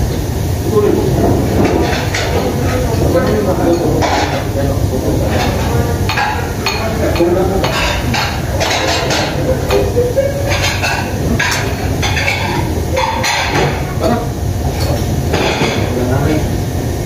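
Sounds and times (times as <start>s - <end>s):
indistinct voices: 0.6s - 16.6s
dishes and utensils clinking: 0.7s - 16.4s.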